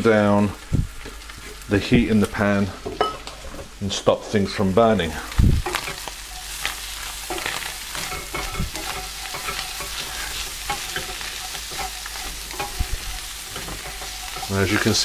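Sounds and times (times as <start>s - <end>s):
meat and vegetables sizzling: 0.0s - 15.0s
wooden spoon scraping a pan: 0.9s - 15.0s.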